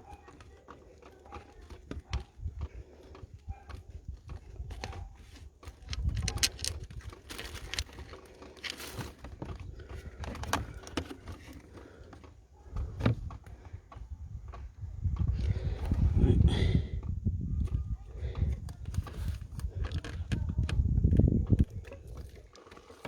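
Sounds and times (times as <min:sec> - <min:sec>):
hand tools clicking and tapping: 0:00.0 - 0:15.6, 0:18.3 - 0:23.0.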